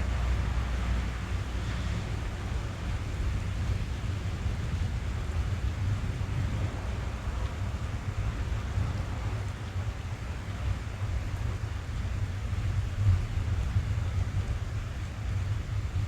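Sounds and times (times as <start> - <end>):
rain on car roof: 0.0 - 16.0.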